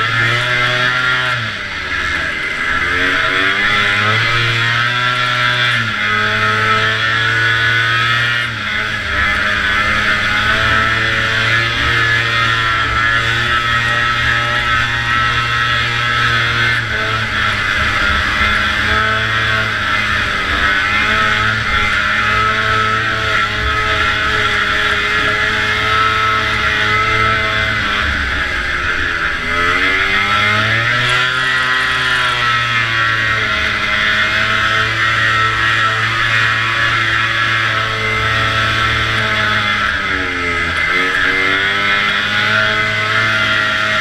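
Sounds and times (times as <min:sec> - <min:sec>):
two-stroke snowmobile engine revving: 0:00.0 - 0:44.0.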